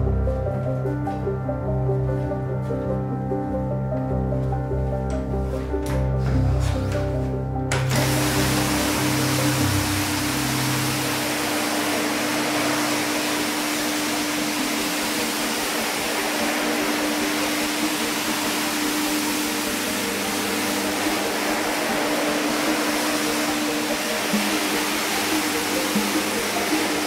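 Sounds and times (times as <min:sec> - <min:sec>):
rug-cleaning machine running: 0:05.1 - 0:27.0.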